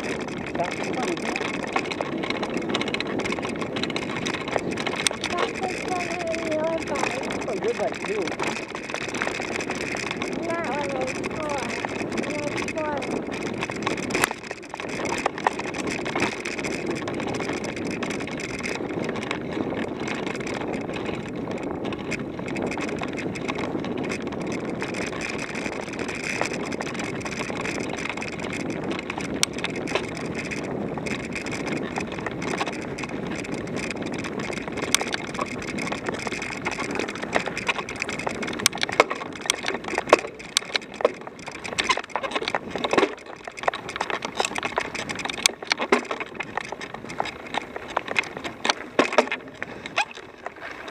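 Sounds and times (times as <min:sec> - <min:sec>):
bicycle clicks and rattles: 0:00.0 - 0:50.9
bicycle rolling on a trail: 0:00.0 - 0:50.9.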